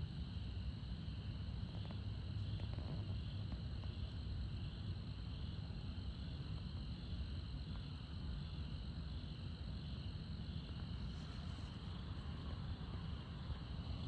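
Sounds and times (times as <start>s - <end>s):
low steady rumble: 0.0s - 14.0s
insects trilling: 0.1s - 14.0s.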